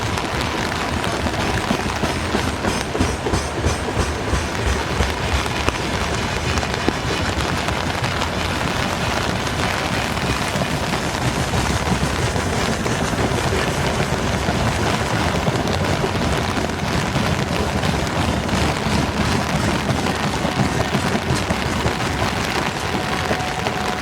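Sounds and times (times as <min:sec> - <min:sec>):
freight train wheels clattering: 0:00.0 - 0:24.0.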